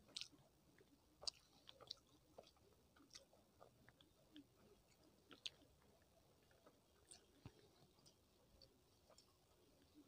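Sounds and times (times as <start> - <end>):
fingers squishing rice: 0.0 - 10.0
person chewing rice: 0.0 - 10.0.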